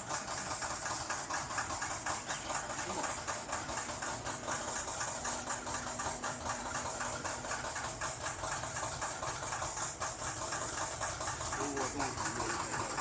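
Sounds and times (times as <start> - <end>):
machine clattering rapidly: 0.0 - 13.0.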